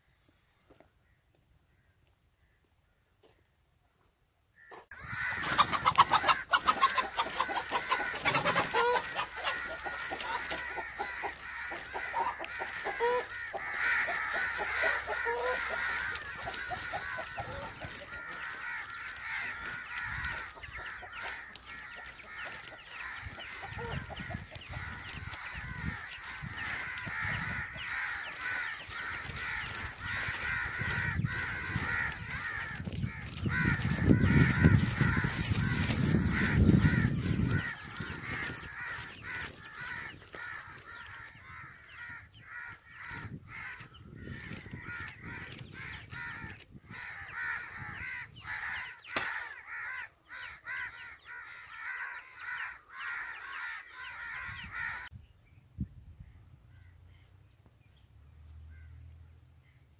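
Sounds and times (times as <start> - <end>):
birds cawing: 4.5 - 55.1.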